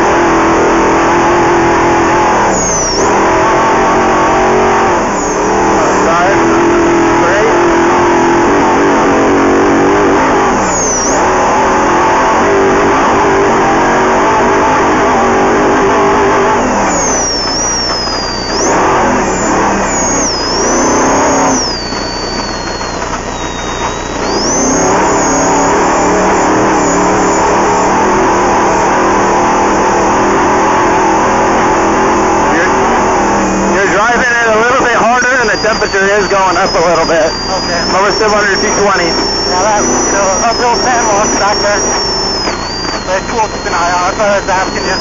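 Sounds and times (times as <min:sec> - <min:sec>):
race vehicle engine revving: 0:00.0 - 0:45.0.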